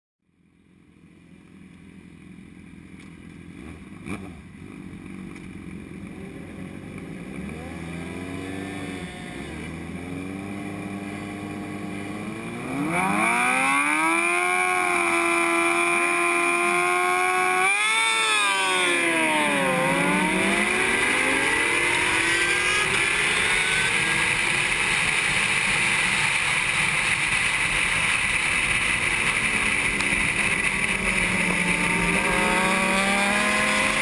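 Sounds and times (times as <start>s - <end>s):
motorcycle engines idling: 0.3s - 34.0s
motorcycle engine at high revs: 1.4s - 34.0s.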